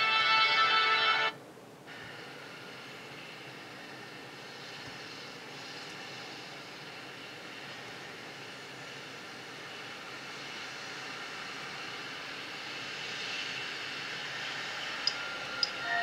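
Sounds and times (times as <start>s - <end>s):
steady soundtrack noise: 0.0s - 16.0s.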